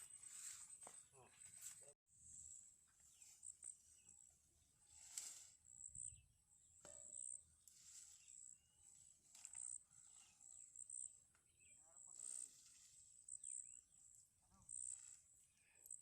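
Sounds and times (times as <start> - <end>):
insects chirring: 2.2 - 16.0.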